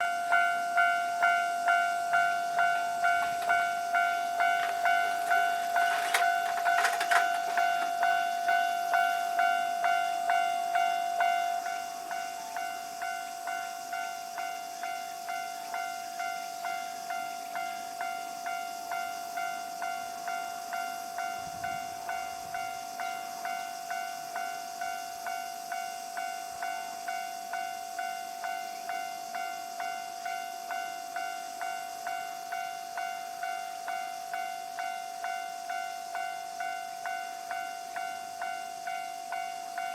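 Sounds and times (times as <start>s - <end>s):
level crossing warning bell ringing: 0.0s - 39.9s.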